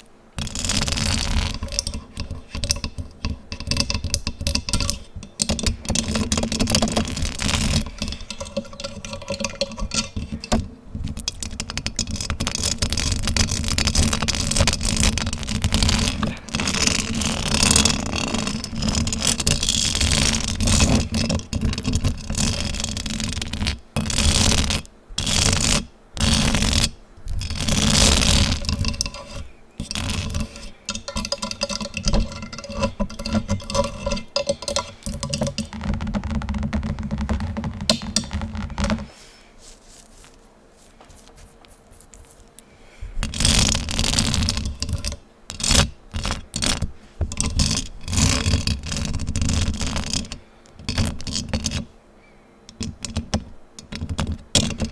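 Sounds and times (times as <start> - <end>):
fingers scratching on microphone: 0.0 - 42.6, 43.2 - 51.9, 52.7 - 54.9.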